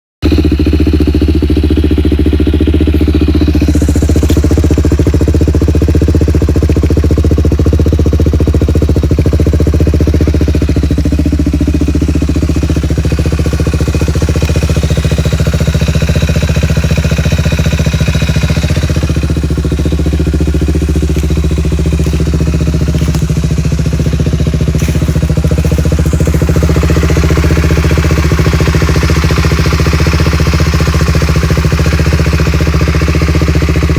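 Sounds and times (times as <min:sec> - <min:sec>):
quad engine idling: 0:00.2 - 0:33.9.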